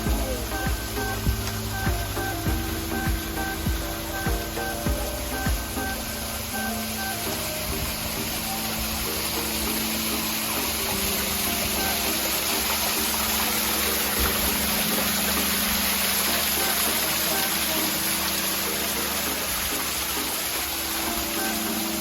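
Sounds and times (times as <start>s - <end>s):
flowing spring water: 0.0s - 22.0s.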